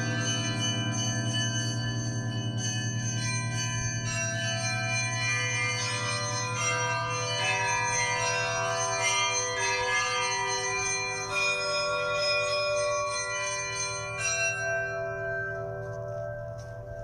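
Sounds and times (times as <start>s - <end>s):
higher church bells ringing: 0.0s - 17.0s
low hum of large bell: 0.0s - 17.0s.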